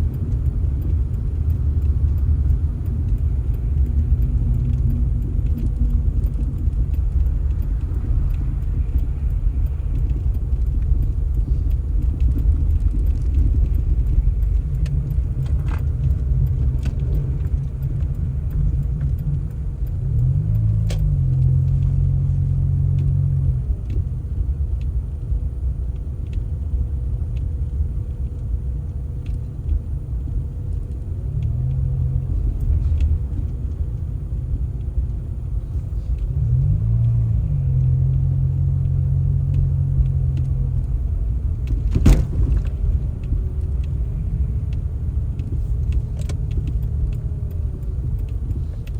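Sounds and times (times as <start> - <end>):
vehicle engine rumbling: 0.0 - 48.9.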